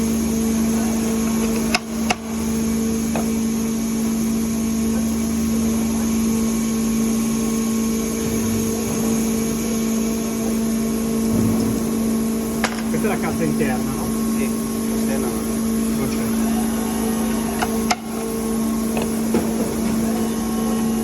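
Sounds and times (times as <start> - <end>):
factory machinery hum: 0.0 - 21.0.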